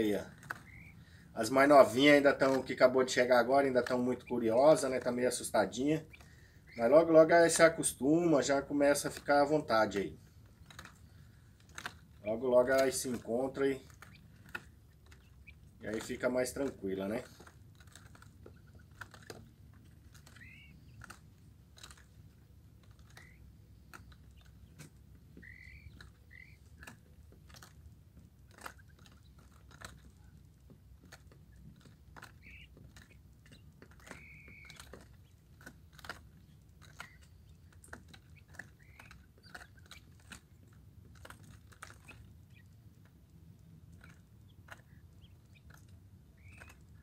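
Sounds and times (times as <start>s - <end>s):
quail chirps: 0.0s - 27.8s, 28.4s - 42.8s, 43.9s - 47.0s
quail pecking clicks: 0.0s - 47.0s.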